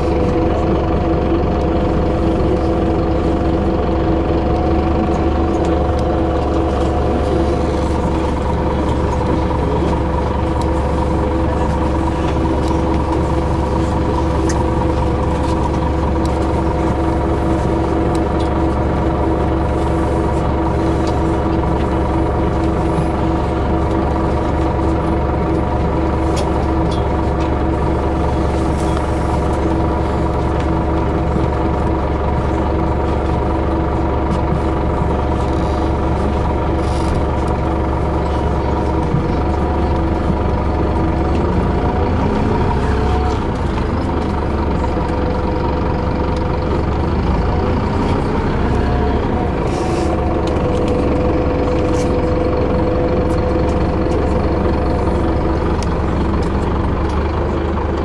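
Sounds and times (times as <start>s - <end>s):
bus engine hum: 0.0s - 58.0s.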